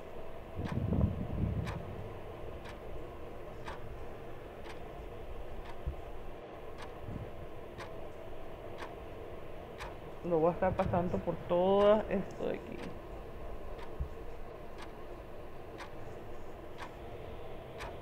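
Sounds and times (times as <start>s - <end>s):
low background noise: 0.0s - 18.0s
clock ticking: 0.5s - 0.9s, 1.5s - 5.9s, 6.6s - 17.1s, 17.8s - 18.0s.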